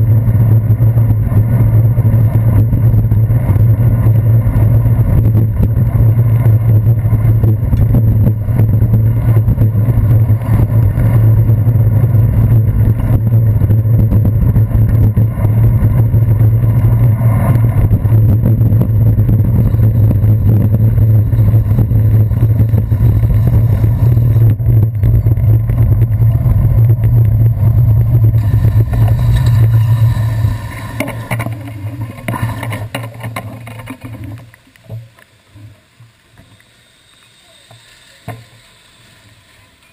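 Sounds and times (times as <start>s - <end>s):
traffic noise: 0.0s - 39.9s
wind and riding rumble: 0.0s - 39.9s.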